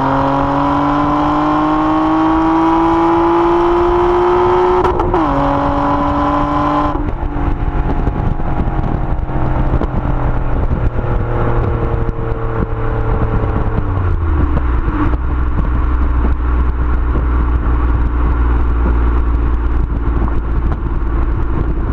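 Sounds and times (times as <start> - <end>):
car exhaust revving and slowing: 0.0 - 21.9
road and wind noise: 0.0 - 21.9.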